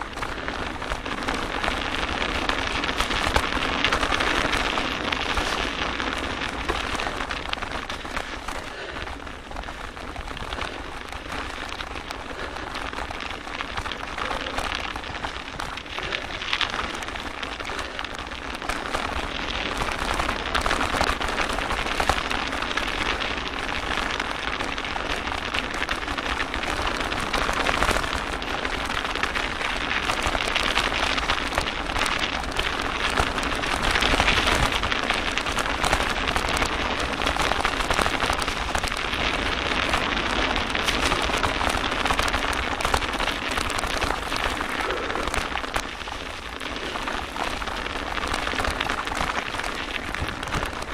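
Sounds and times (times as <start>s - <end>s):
bike tyres crackling on snow: 0.0s - 50.9s.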